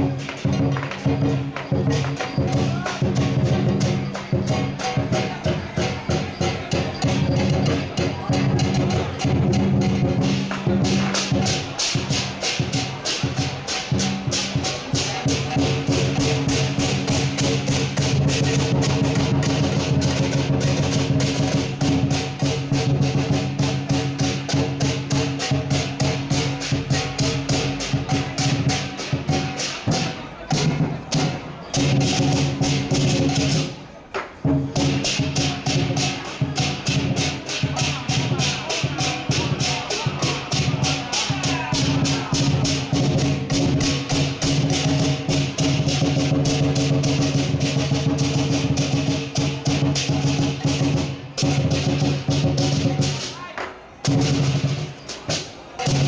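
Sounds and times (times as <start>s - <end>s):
fast percussive beat: 0.0s - 56.0s.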